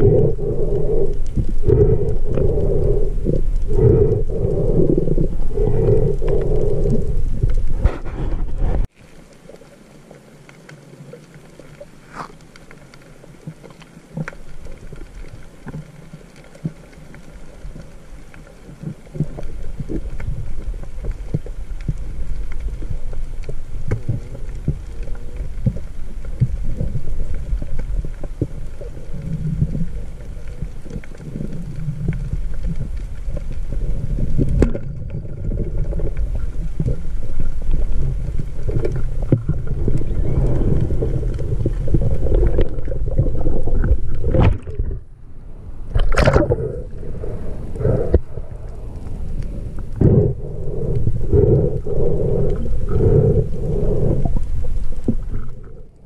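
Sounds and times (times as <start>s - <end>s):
muffled underwater rumble: 0.0s - 56.0s.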